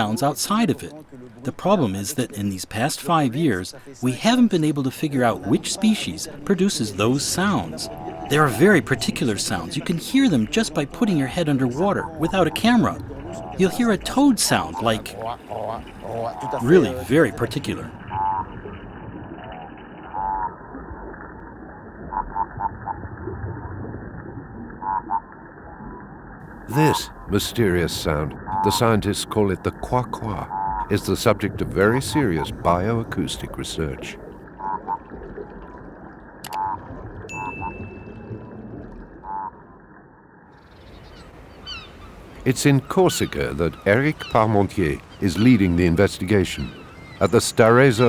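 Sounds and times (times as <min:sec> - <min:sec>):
croaking fish calls: 0:00.0 - 0:23.4, 0:24.7 - 0:25.8, 0:26.5 - 0:39.8, 0:40.6 - 0:48.0
steady underwater noise: 0:00.0 - 0:48.0.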